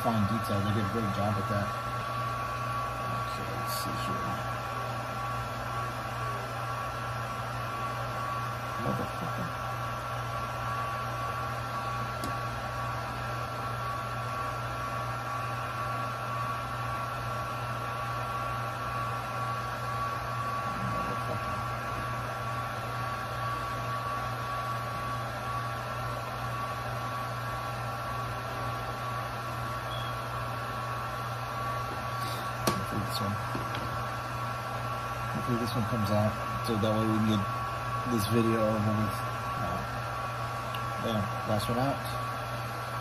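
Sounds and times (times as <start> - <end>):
electric blower motor whirring: 0.0 - 43.0.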